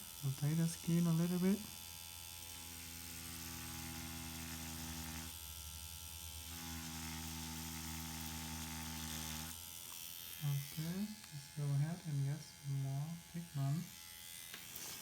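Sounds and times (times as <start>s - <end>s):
microblading machine buzzing: 0.0s - 15.0s.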